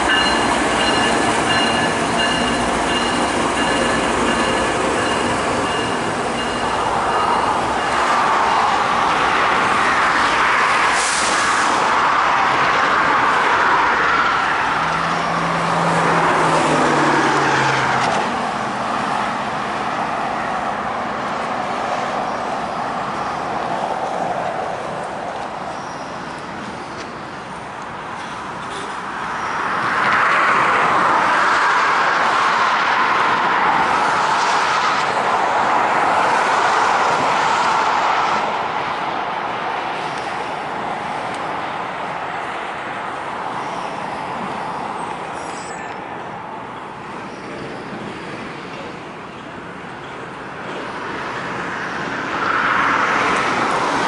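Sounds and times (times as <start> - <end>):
highway traffic rushing past: 0.0 - 54.0.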